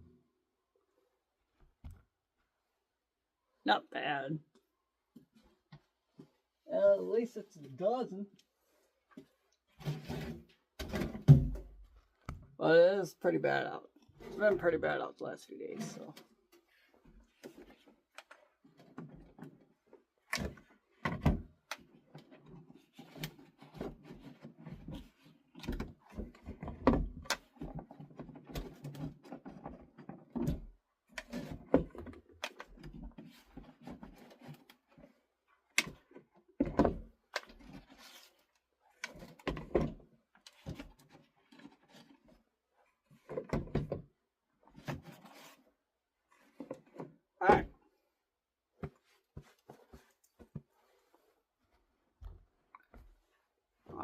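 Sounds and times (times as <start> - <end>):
rustling and handling noise: 4.6 - 12.6, 13.9 - 54.0.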